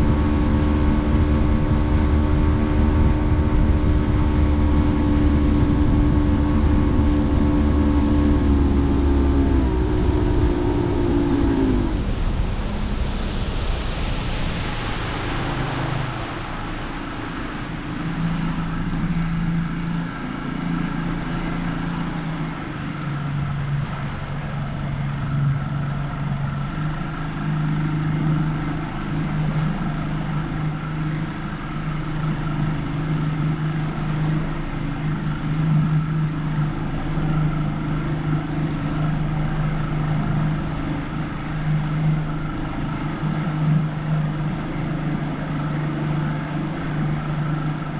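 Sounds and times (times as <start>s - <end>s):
boat motor droning: 0.0s - 47.9s
water rushing: 0.0s - 47.9s
wind: 0.0s - 47.9s.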